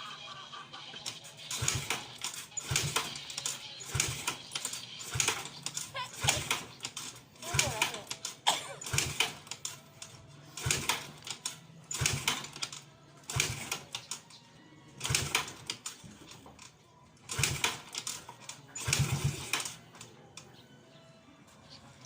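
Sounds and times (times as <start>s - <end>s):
scooter engine cranking: 1.0s - 20.6s.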